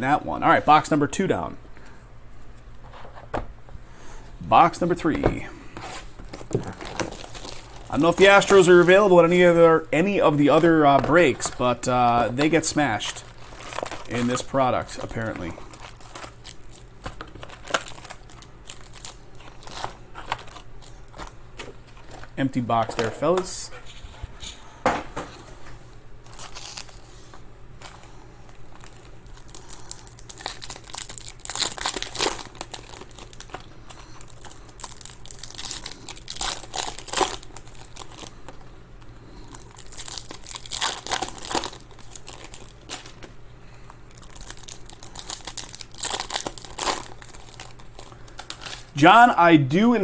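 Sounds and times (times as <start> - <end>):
wrappers tearing and crinkling: 5.8 - 23.7, 26.2 - 49.0.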